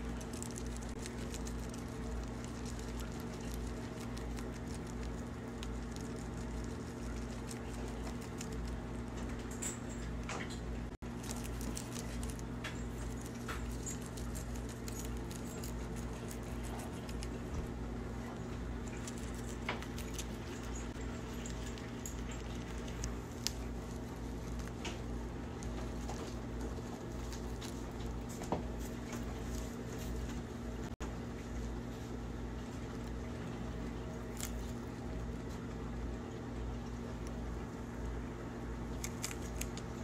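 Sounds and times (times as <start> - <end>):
guinea pig chewing leaves: 0.0 - 40.0.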